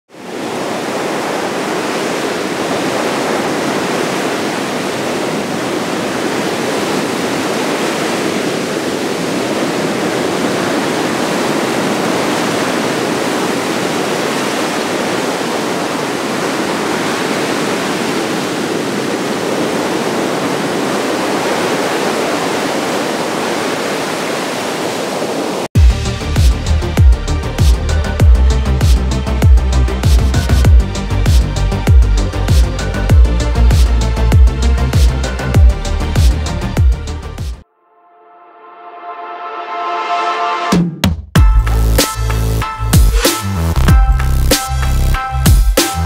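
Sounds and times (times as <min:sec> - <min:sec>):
ocean waves breaking: 0:00.1 - 0:37.6.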